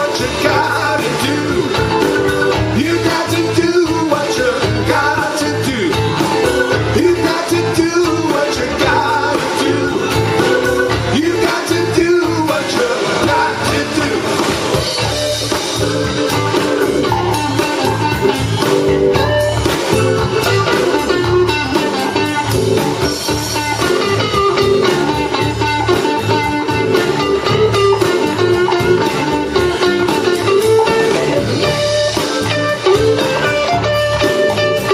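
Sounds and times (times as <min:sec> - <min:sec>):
blues band playing: 0:00.0 - 0:34.9
lead guitar: 0:00.0 - 0:34.9.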